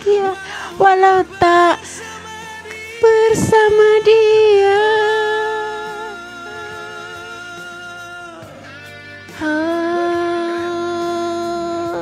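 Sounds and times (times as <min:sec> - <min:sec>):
guitar backing track: 0:00.0 - 0:12.0
person singing: 0:00.0 - 0:12.0.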